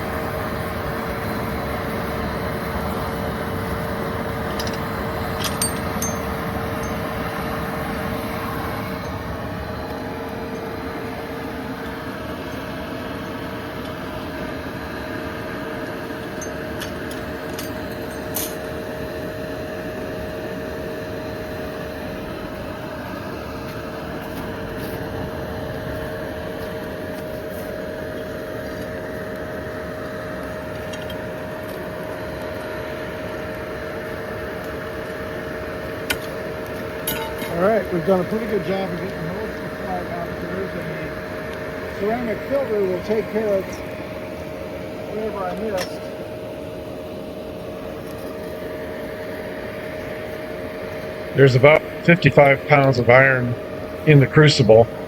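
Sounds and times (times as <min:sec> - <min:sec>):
fan humming: 0:00.0 - 0:55.0.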